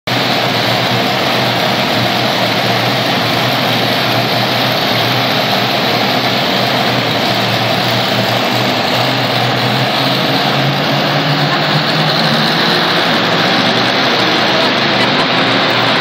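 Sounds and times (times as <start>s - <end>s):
monster truck engine at low revs: 0.1s - 16.0s.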